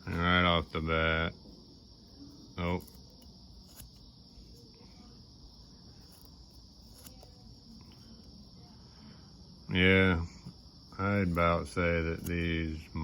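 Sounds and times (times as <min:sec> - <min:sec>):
steady high-pitched hiss: 0:00.0 - 0:13.0.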